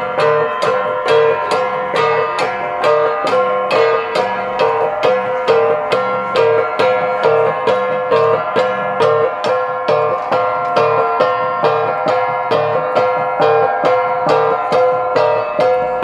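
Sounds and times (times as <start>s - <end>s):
bronze gongs struck rhythmically: 0.0s - 16.0s.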